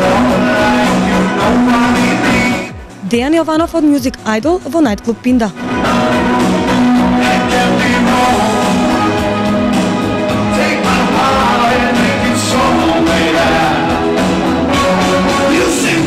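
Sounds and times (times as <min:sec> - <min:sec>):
man singing into a microphone: 0:00.0 - 0:02.9, 0:05.8 - 0:16.0
band music with steady beat: 0:00.0 - 0:16.0.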